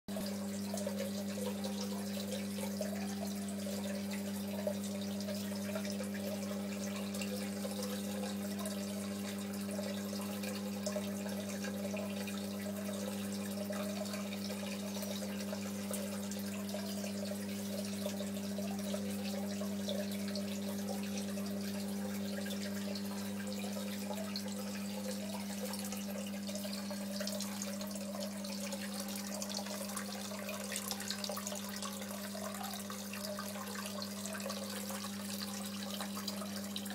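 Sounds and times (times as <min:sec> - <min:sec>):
electric pump hum: 0:00.1 - 0:36.9
water trickling and splashing: 0:00.1 - 0:36.9.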